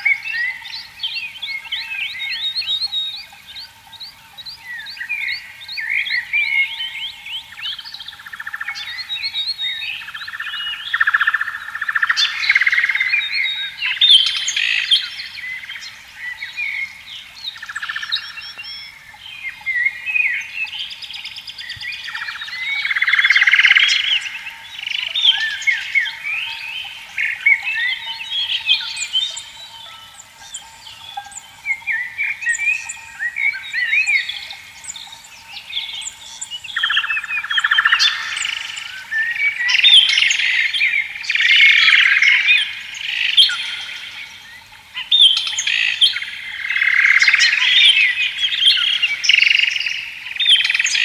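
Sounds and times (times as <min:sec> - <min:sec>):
frogs calling in pulsed trills: 0:00.0 - 0:51.0.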